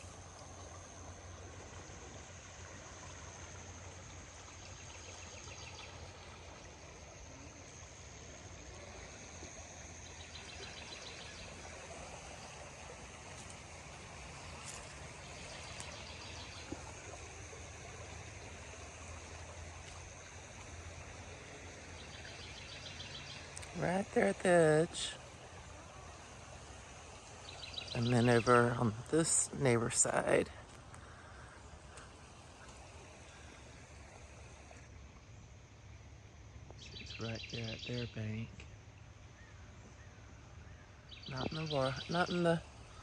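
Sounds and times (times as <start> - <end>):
insect high-pitched drone: 0.0 - 43.0.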